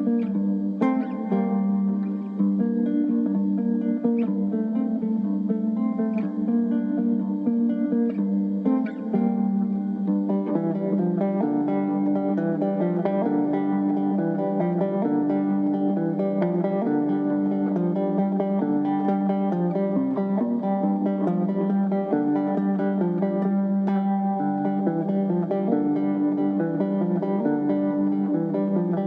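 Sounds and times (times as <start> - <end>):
plucked guitar melody: 0.0 - 29.0.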